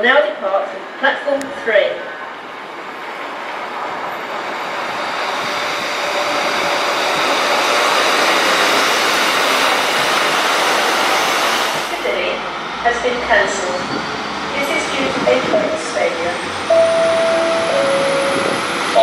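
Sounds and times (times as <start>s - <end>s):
train running: 2.2s - 19.0s.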